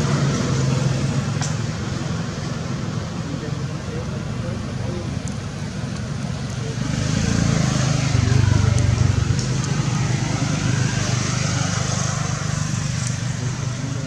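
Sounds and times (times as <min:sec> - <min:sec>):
road hiss: 0:00.0 - 0:14.0
vehicle engine droning: 0:00.0 - 0:14.0.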